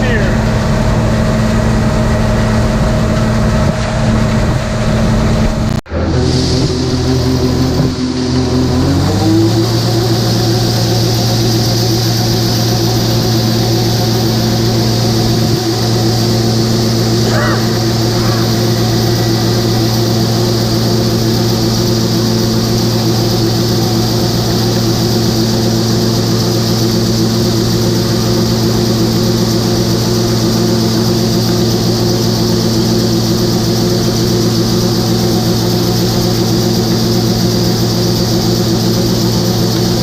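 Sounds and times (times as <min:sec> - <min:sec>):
large engine droning with hiss: 0:00.0 - 0:40.0.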